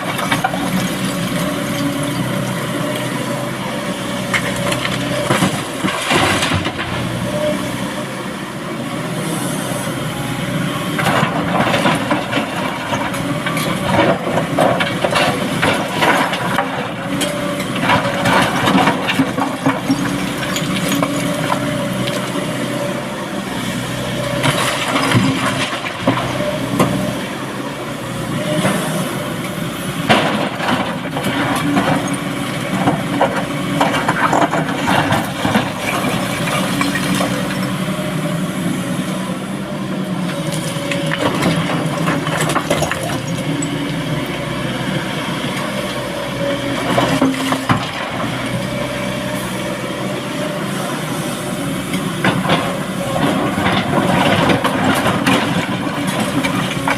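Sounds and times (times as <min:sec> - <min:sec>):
heavy diesel machinery running: 0:00.0 - 0:56.9.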